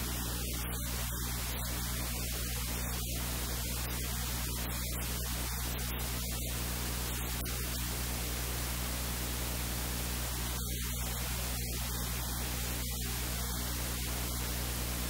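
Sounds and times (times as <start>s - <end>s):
low electrical hum: 0.0s - 15.0s
static hiss: 0.0s - 15.0s.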